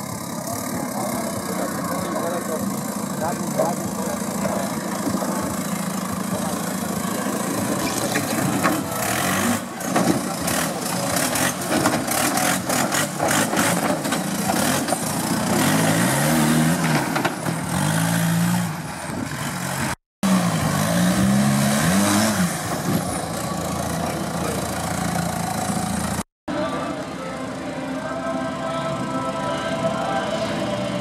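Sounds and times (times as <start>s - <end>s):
buggy engine revving: 0.0s - 26.2s.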